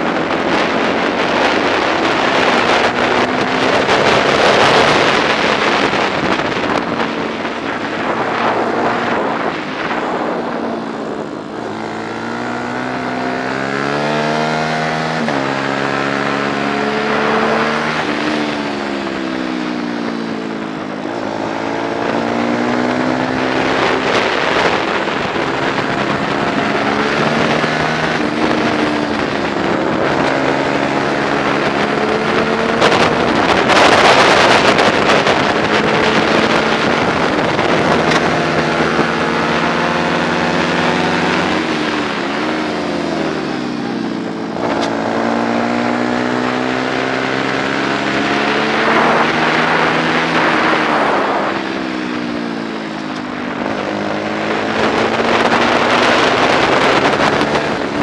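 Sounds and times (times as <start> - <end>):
racing motorcycle engine: 0.0 - 58.0
wind rush on microphone: 0.0 - 58.0.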